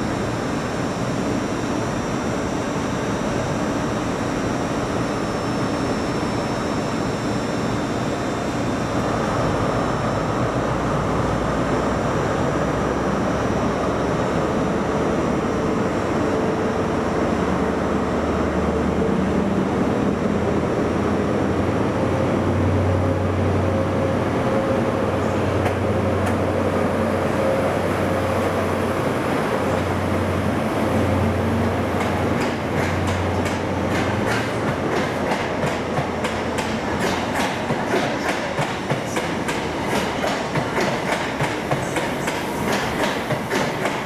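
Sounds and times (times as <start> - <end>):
train rumbling: 8.3 - 44.0.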